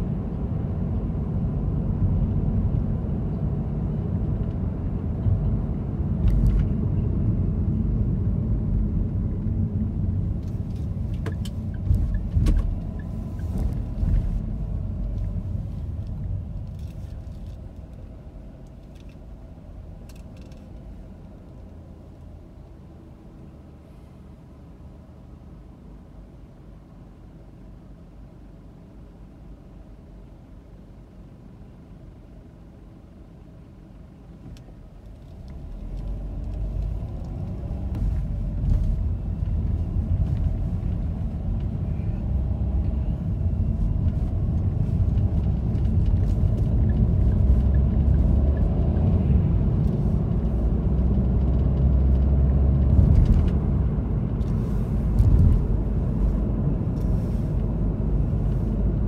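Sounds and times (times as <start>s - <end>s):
car engine low hum: 0.0s - 59.0s
engine and tyres rumbling: 0.0s - 59.0s.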